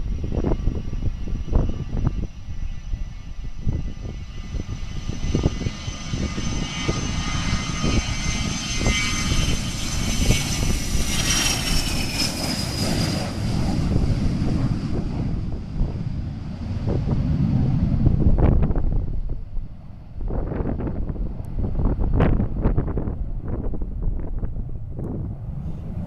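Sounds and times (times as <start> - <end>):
jet engine whine: 0.0 - 26.0
wind rumbling on microphone: 0.0 - 26.0.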